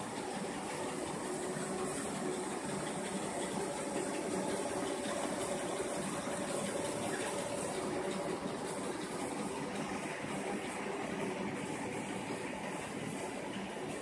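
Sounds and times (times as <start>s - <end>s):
machine motors and rollers: 0.0s - 14.0s.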